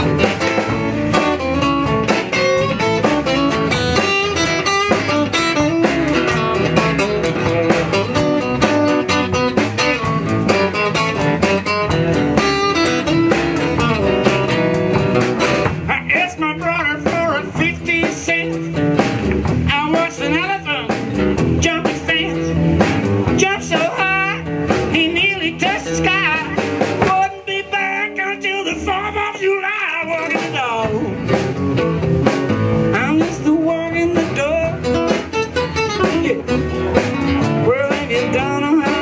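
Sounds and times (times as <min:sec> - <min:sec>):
bending lead guitar melody: 0:00.0 - 0:39.0
drum kit beat: 0:00.0 - 0:39.0
electric guitar: 0:00.0 - 0:39.0
strummed acoustic guitars: 0:00.0 - 0:39.0.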